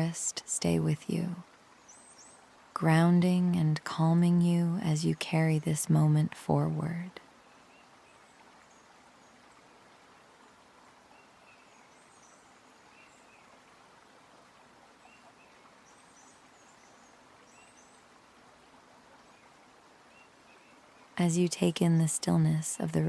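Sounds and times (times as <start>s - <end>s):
soft steady hiss: 0.0s - 23.0s.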